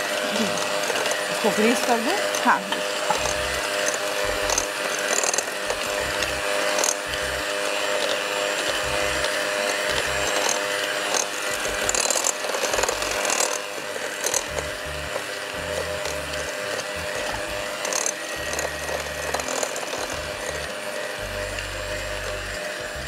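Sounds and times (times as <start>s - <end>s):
electric hand mixer running: 0.0s - 23.0s.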